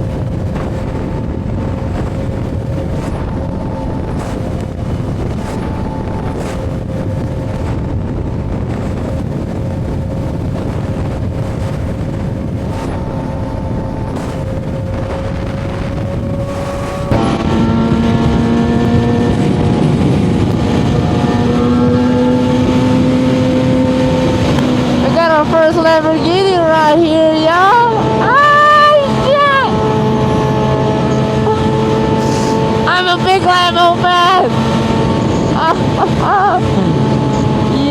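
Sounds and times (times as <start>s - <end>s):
motorcycle engine cruising: 0.0s - 37.9s
wind rush: 0.0s - 37.9s.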